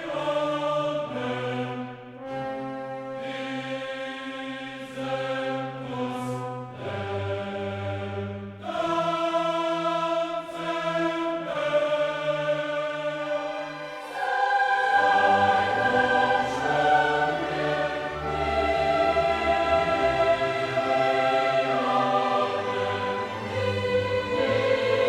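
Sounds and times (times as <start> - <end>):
choral voices with orchestra: 0.0 - 25.0.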